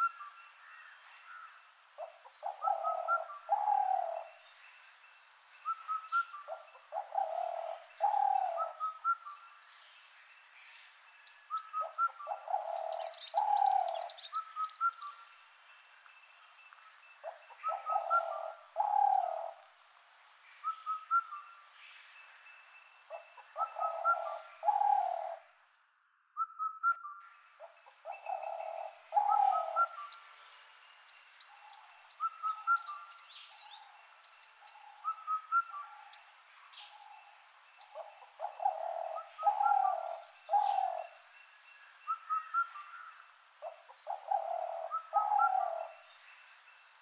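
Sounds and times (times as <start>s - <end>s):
birds chirping and twittering: 0.0s - 26.2s, 27.2s - 47.0s.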